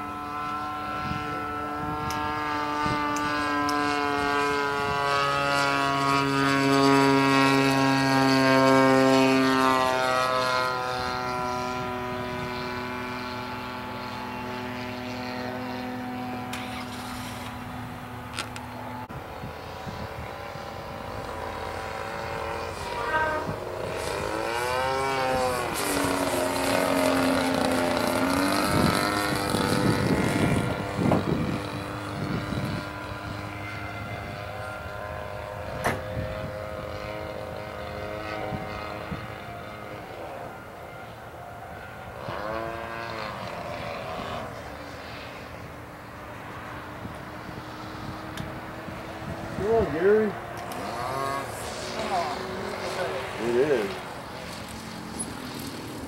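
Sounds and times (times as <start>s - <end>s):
lower engine note: 0.0s - 56.0s
model airplane engine drone: 0.0s - 56.0s.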